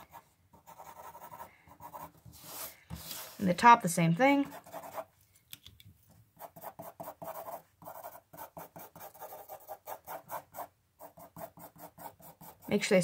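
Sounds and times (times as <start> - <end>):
pencil scratching on paper: 0.0 - 3.5, 4.4 - 5.1, 6.4 - 12.9.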